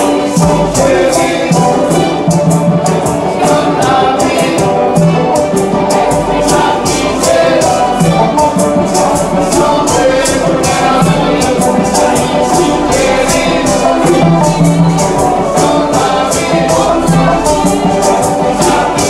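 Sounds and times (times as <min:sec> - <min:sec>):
banjo: 0:00.0 - 0:19.0
drum: 0:00.0 - 0:19.0
shaker rhythm: 0:00.0 - 0:19.0
voices singing: 0:00.0 - 0:19.0.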